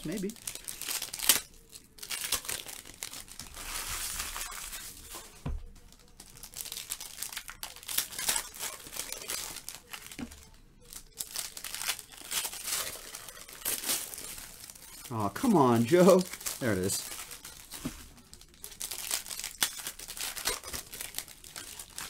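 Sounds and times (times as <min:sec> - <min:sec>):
foil packs crinkling and tearing: 0:00.0 - 0:22.0.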